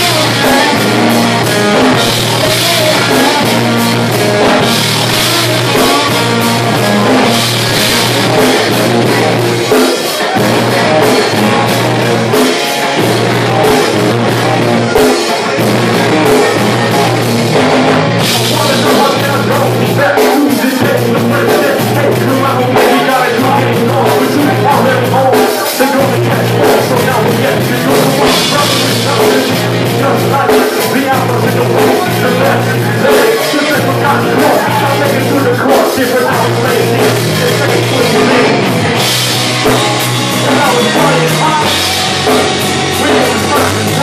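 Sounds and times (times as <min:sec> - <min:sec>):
rock band playing live: 0:00.0 - 0:44.0.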